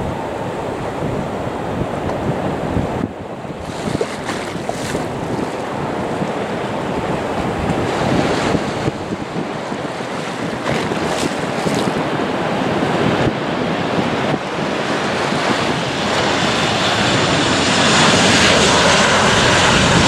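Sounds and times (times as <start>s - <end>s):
surf washing ashore: 0.0s - 20.0s
wind buffeting microphone: 0.0s - 20.0s.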